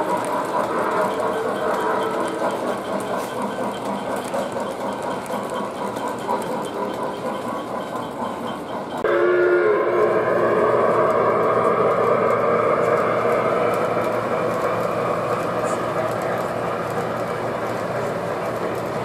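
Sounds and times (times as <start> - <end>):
loud sound with steady tones: 0.0 - 19.0
model train cars rumbling: 0.0 - 19.0.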